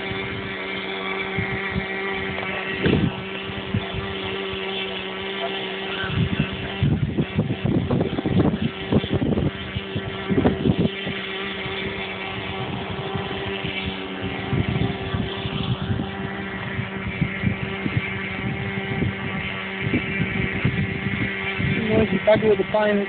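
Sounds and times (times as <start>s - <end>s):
model plane motor whine: 0.0s - 23.0s
wind buffeting microphone: 0.0s - 23.0s.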